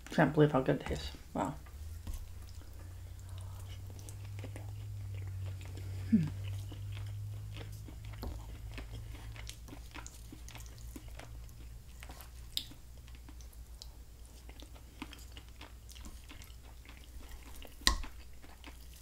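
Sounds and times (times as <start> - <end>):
steady low hum: 0.0 - 19.0
chewing and wet mouth clicks: 1.6 - 19.0.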